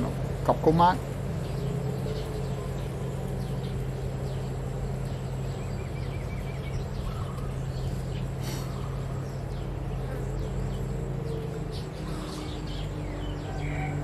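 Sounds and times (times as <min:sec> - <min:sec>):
bird trill: 0:00.0 - 0:14.0
small birds chirping: 0:00.0 - 0:14.0
steady low hum: 0:00.0 - 0:14.0.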